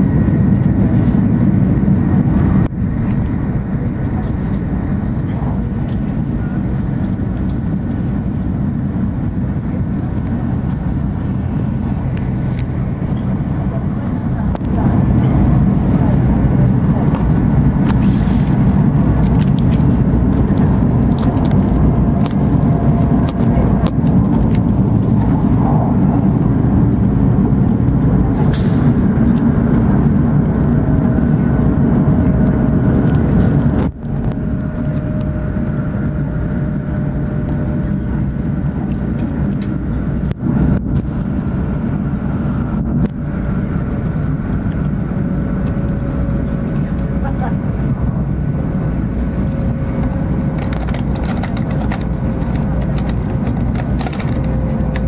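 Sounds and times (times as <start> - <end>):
train cabin low rumble: 0.0 - 55.0.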